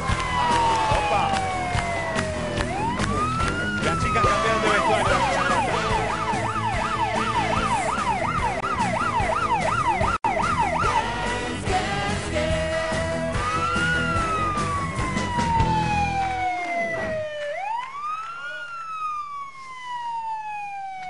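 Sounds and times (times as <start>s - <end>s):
police siren yelp: 0.0s - 11.4s, 13.2s - 21.0s
police siren wail: 0.0s - 11.7s, 13.0s - 21.0s
dance music: 0.0s - 17.4s.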